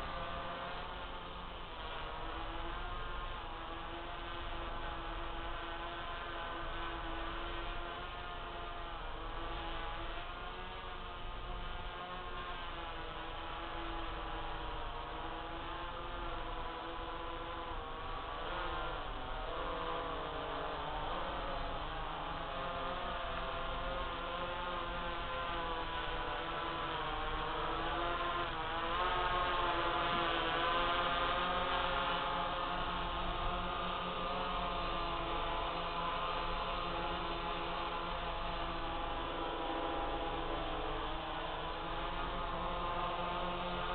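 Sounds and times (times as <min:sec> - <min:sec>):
drone motors humming: 0:00.0 - 0:43.9
multicopter propellers buzzing: 0:00.0 - 0:43.9.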